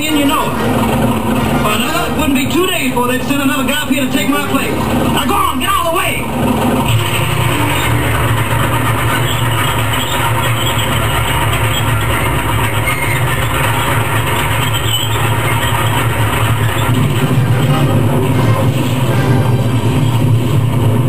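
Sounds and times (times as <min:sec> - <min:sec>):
steel tracks clattering: 0:00.0 - 0:21.0
tractor engine drone: 0:00.0 - 0:21.0.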